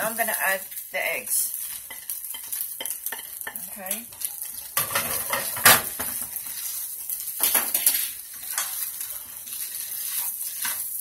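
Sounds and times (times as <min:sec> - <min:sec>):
food sizzling: 0:00.0 - 0:11.0
spatula scraping a frying pan: 0:00.0 - 0:11.0.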